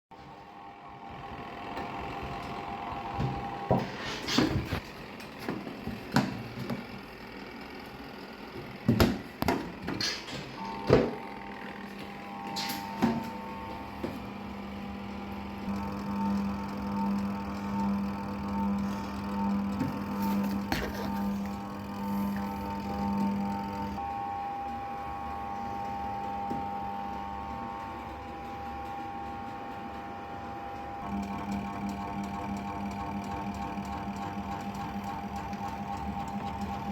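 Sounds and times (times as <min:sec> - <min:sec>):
spinner motor hum: 0:00.2 - 0:36.9.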